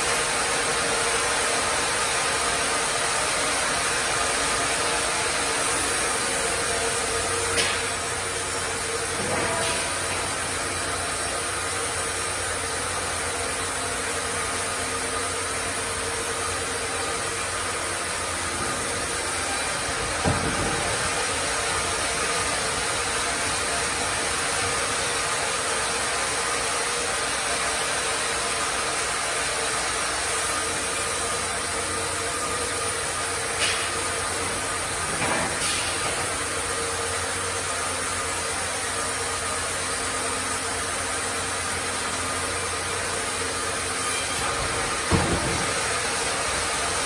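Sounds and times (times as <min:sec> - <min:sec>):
band sawmill running: 0:00.0 - 0:47.0.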